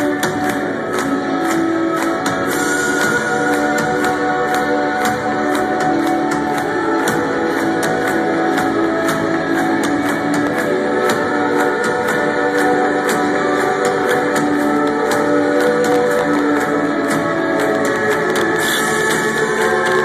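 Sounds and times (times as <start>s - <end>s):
steady drumbeat: 0.0s - 20.0s.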